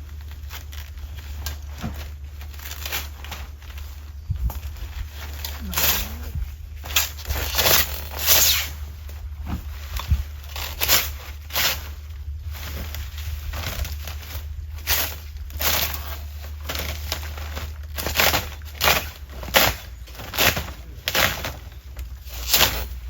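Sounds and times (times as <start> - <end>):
crunching crackling noises: 0.0 - 23.0
steady low hum: 0.0 - 23.0.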